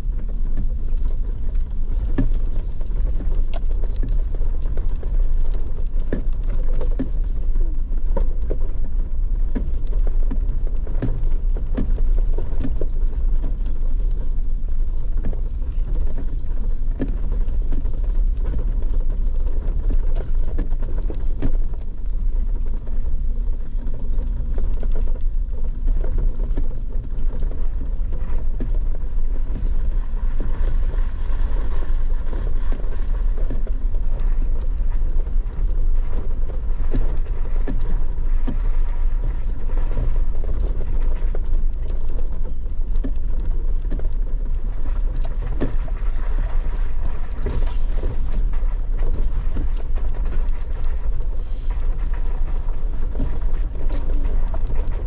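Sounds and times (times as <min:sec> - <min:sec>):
knocks and rattles over ruts: 0:00.0 - 0:55.0
low engine rumble: 0:00.0 - 0:55.0.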